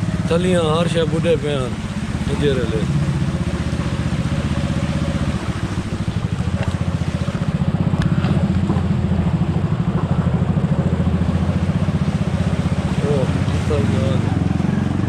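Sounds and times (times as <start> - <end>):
small motorcycle engine: 0.0 - 15.0.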